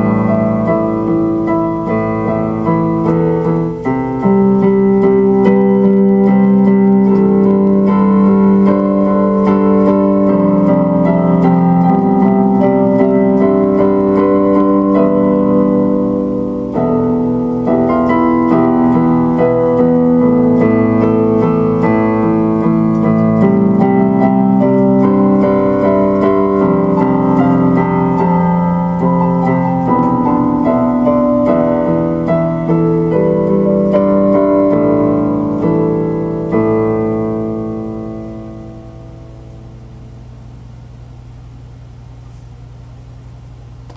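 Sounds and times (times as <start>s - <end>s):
solo piano music: 0.0s - 41.7s.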